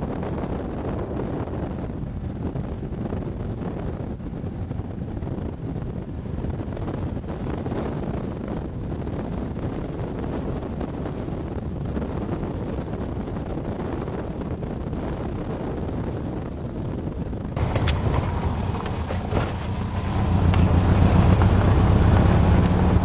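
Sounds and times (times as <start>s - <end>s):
dune buggy engine: 0.0s - 23.0s
wind buffeting microphone: 0.0s - 23.0s.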